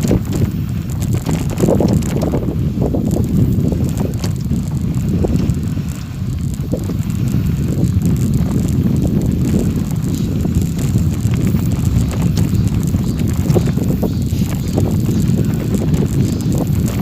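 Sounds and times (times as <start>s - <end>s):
faint ticks: 0.0s - 17.0s
steady rumble of riding on gravel: 0.0s - 17.0s
wind buffeting microphone: 0.0s - 17.0s.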